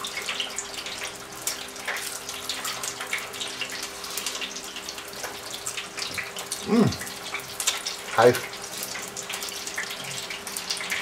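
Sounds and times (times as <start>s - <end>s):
hot oil bubbling and crackling: 0.0s - 11.0s.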